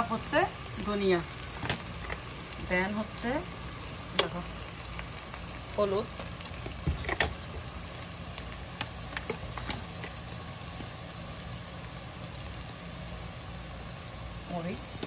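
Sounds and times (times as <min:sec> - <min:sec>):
onions frying in hot oil: 0:00.0 - 0:15.0.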